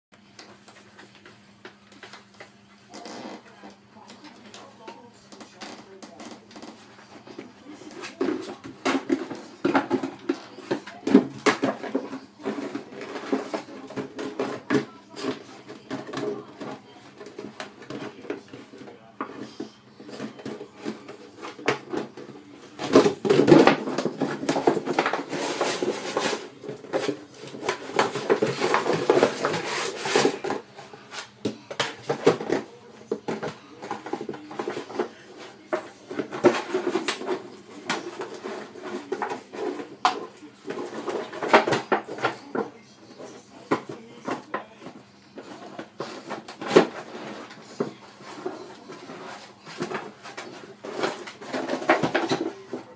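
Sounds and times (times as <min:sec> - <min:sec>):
dog chewing plastic bottle: 0:05.4 - 0:52.9.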